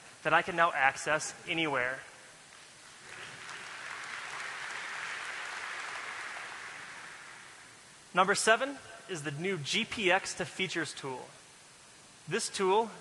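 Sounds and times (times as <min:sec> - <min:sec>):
soft even hiss: 0:00.0 - 0:13.0.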